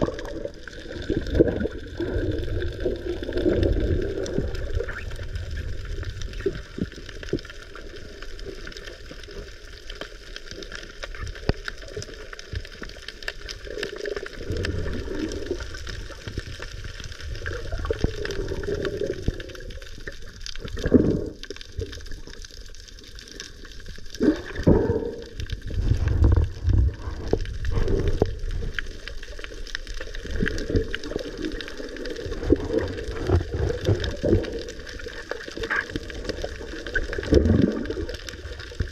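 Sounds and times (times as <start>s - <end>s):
muffled underwater rushing water: 0.0s - 38.9s.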